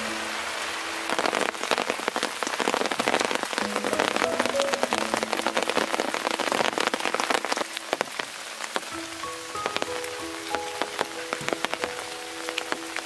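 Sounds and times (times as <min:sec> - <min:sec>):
steady rain falling: 0:00.0 - 0:13.0
raindrops clicking: 0:00.8 - 0:13.0.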